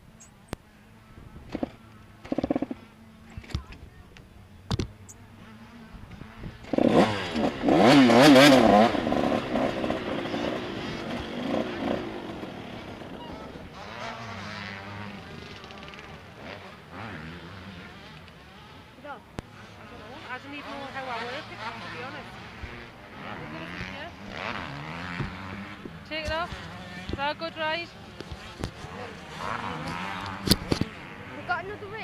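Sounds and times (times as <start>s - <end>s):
motocross bike engine revving: 0.1s - 32.0s.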